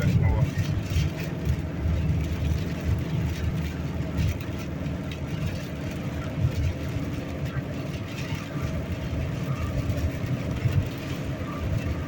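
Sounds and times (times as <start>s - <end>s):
road and engine noise: 0.0s - 12.0s
wind buffeting car: 0.0s - 12.0s.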